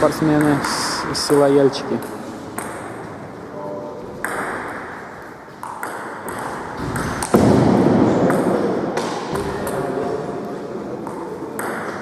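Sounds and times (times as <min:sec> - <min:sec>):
background noise: 0:00.0 - 0:12.0.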